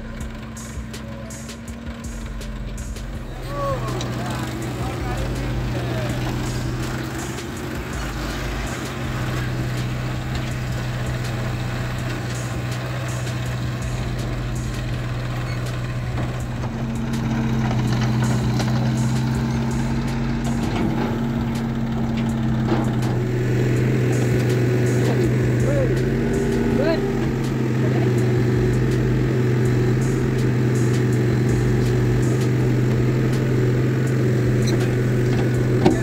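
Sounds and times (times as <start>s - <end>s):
diesel engines running: 0.0s - 36.0s
higher engine note: 0.0s - 36.0s.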